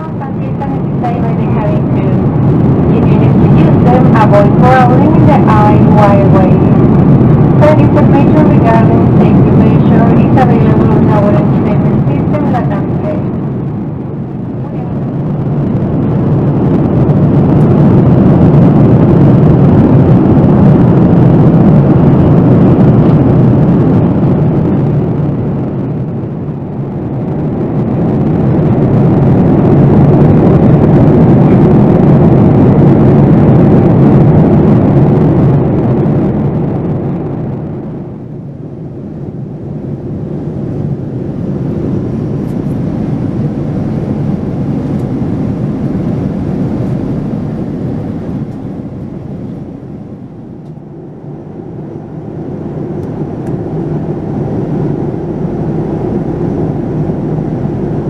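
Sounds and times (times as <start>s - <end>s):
jet engine hum inside cabin: 0.0s - 58.0s.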